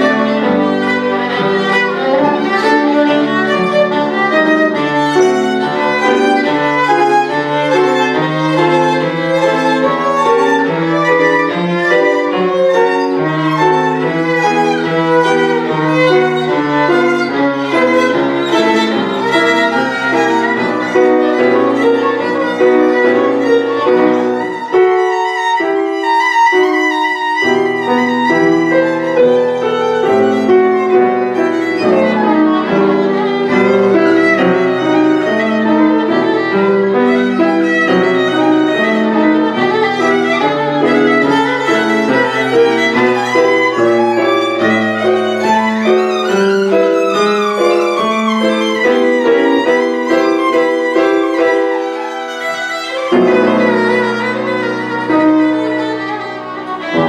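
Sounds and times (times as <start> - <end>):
piano accompaniment: 0.0 - 57.0
violin playing fast notes: 0.0 - 57.0.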